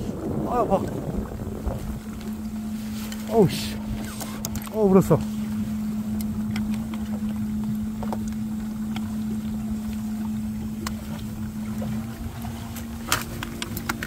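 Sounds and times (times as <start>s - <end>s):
water churning: 0.0s - 14.0s
pumps humming: 0.1s - 14.0s.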